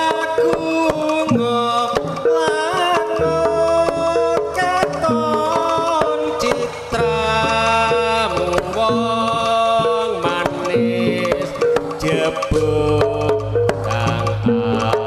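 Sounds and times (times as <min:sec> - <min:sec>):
hand-drum strokes: 0:00.0 - 0:15.0
melody of long held notes: 0:00.0 - 0:15.0.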